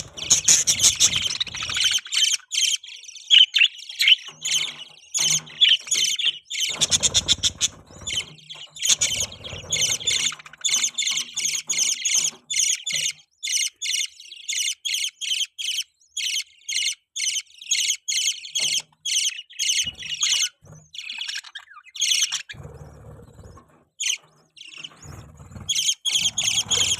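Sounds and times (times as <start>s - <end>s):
budgies chirping: 0.0s - 26.9s.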